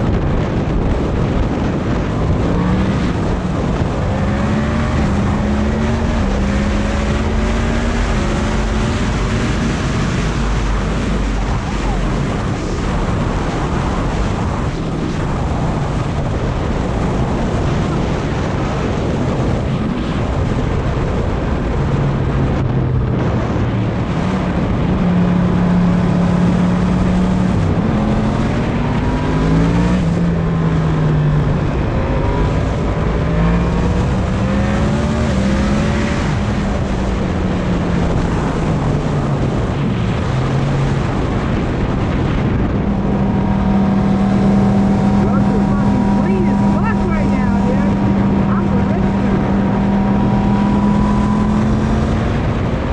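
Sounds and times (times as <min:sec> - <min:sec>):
motorcycle engine revving: 0:00.0 - 0:52.9
wind noise on microphone: 0:00.0 - 0:52.9.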